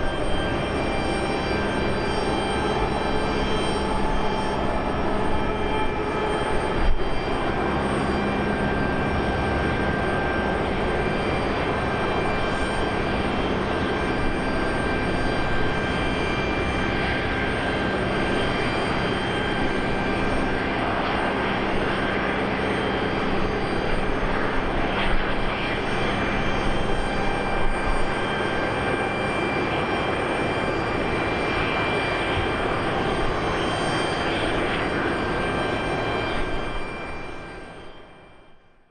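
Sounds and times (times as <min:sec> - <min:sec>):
jet engines idling: 0:00.0 - 0:37.9.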